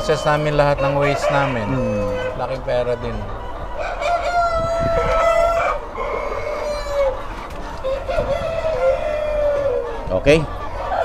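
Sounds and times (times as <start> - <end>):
rooster crowing: 0.0 - 9.9
chickens calling: 0.0 - 11.0.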